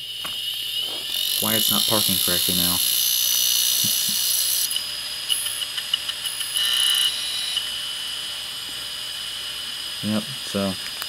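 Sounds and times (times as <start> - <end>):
hard drive high whine: 0.0 - 11.0.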